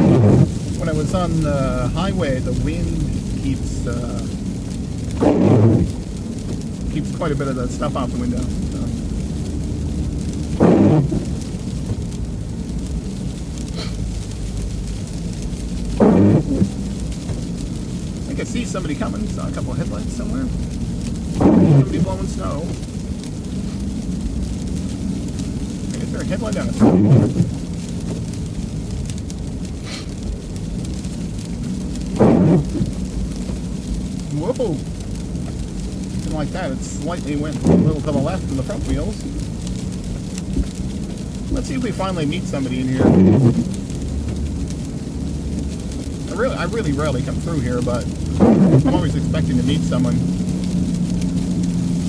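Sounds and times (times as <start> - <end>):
road and engine rumble: 0.0 - 52.0
windshield wiper swish: 0.0 - 52.0.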